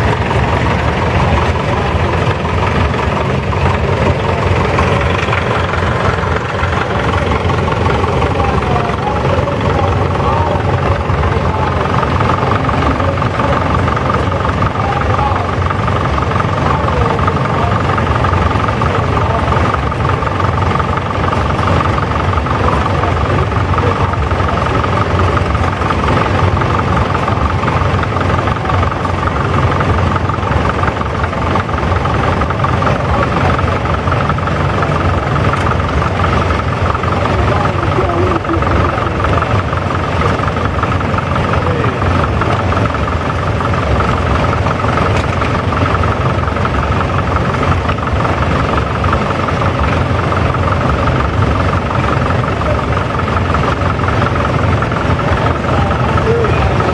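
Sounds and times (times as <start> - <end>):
tractor engines running slowly: 0.0 - 56.9.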